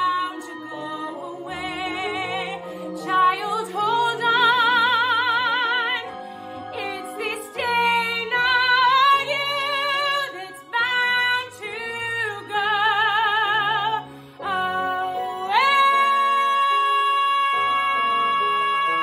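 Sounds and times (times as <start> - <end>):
instrumental accompaniment: 0.0 - 19.0
woman singing: 0.0 - 19.0.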